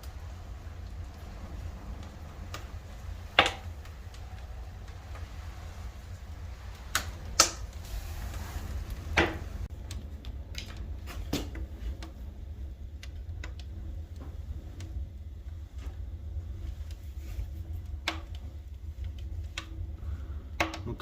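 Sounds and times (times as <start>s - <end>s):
firewood crackling and popping: 0.0s - 21.0s
low fire rumble: 0.0s - 21.0s.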